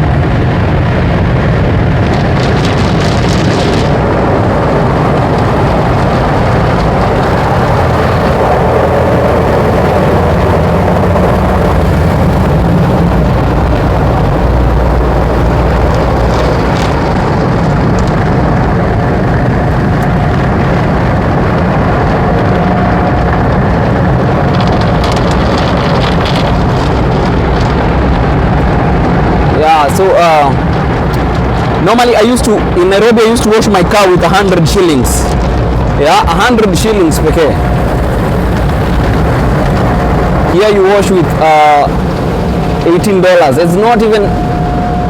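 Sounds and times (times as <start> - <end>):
car wash water spraying on car: 0.0 - 45.0.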